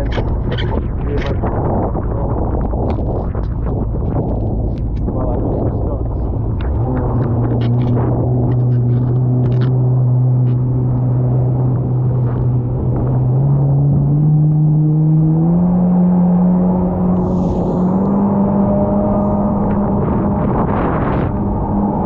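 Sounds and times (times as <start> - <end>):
jet ski engine revving: 0.0 - 22.0.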